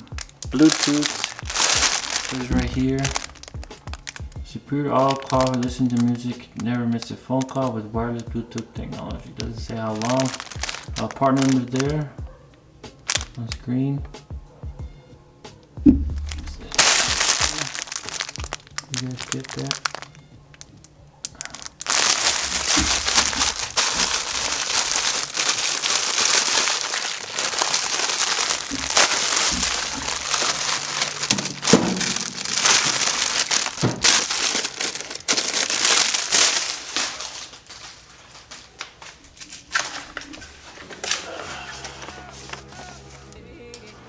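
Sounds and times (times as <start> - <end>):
plastic and cardboard crinkling: 0.0 - 13.8, 16.0 - 43.4.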